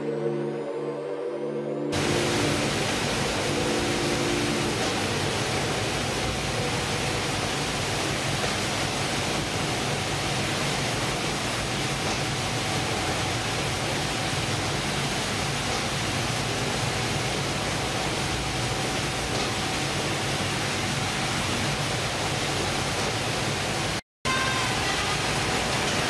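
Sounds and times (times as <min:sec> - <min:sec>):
machinery rushing noise: 0:01.9 - 0:26.0
faint steady hum: 0:02.0 - 0:25.9.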